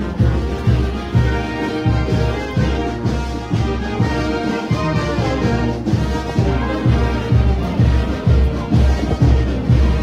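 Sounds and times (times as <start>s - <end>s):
brass band playing: 0.0s - 10.0s
drum and bass beat: 0.0s - 10.0s.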